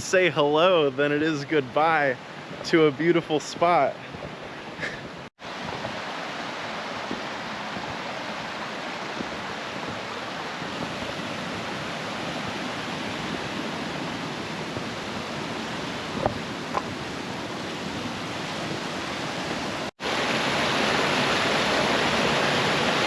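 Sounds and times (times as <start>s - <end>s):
mountain stream rushing: 0.0s - 23.0s.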